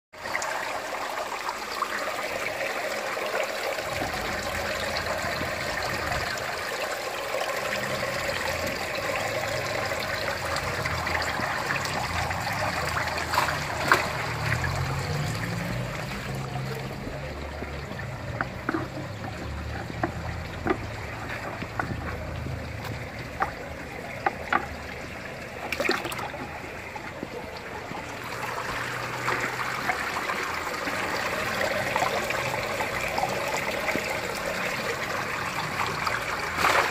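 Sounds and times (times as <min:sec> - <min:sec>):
water pouring and splashing: 0:00.2 - 0:36.9.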